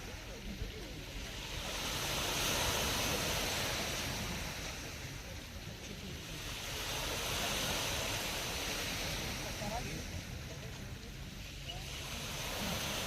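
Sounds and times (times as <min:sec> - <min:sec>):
surf washing onto shore: 0:00.0 - 0:13.0.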